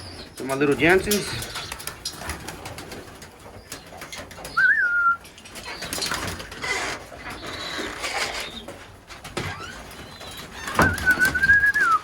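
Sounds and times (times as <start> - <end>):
pigeons cooing: 0.0 - 12.0
wings flapping: 0.4 - 12.0.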